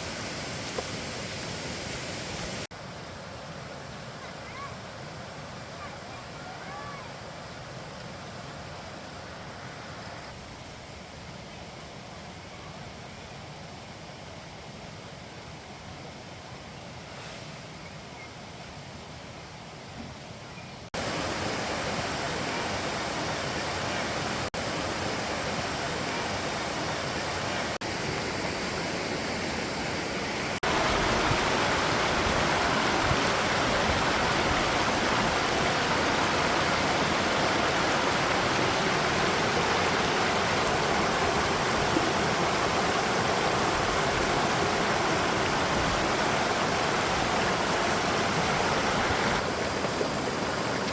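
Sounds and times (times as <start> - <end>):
stream water rushing: 0.0 - 16.6, 20.9 - 50.9.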